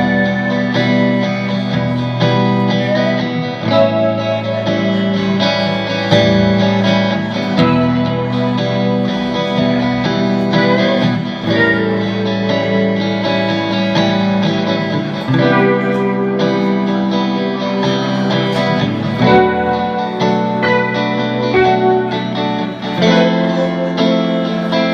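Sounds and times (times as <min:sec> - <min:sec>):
guitar chords ringing: 0:00.0 - 0:24.9.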